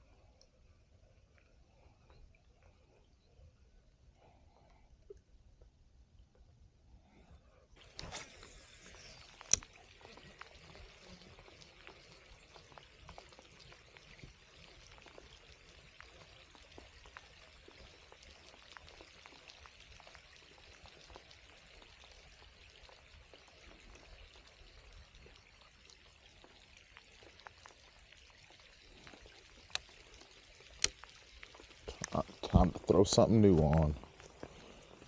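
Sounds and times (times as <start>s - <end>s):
light rain pattering: 0.0s - 35.0s.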